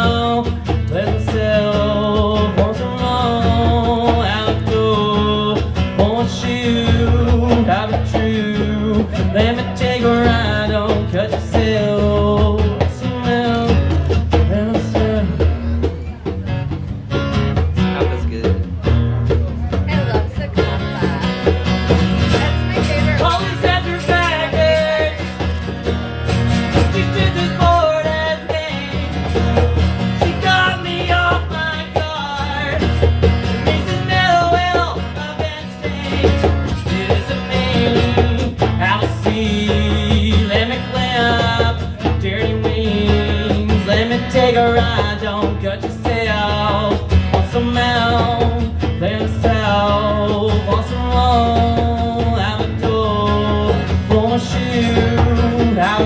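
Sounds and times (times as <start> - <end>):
acoustic guitar strummed: 0.0 - 56.0
djembe hand drum: 0.0 - 56.0.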